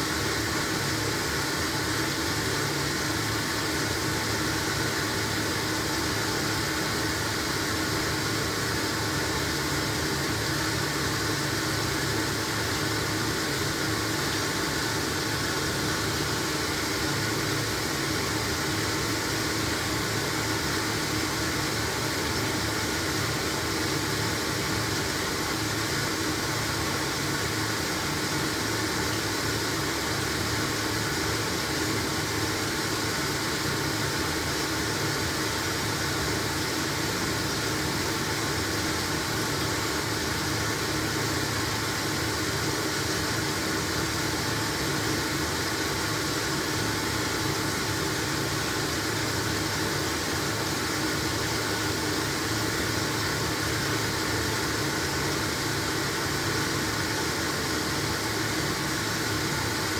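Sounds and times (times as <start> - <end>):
washing machine whirring: 0.0 - 59.9.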